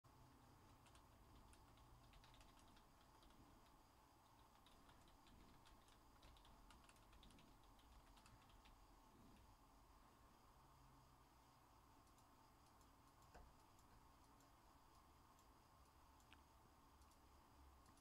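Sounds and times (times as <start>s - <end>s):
low steady hum: 0.1s - 18.0s.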